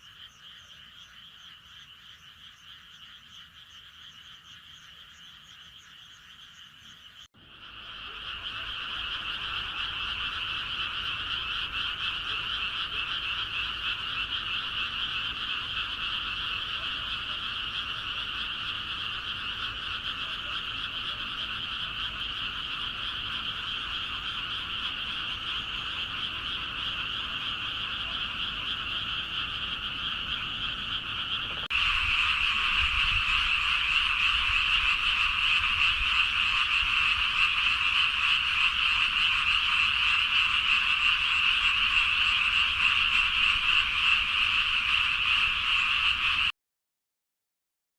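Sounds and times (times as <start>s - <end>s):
chorus of frogs calling: 0.0s - 46.5s.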